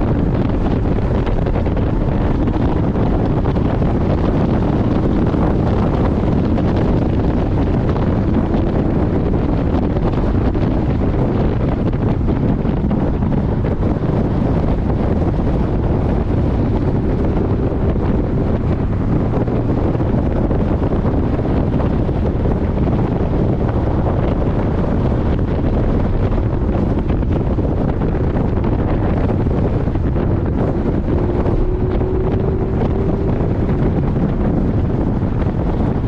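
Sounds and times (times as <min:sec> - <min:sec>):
car running noise: 0:00.0 - 0:36.0
wind buffeting microphone: 0:00.0 - 0:36.0.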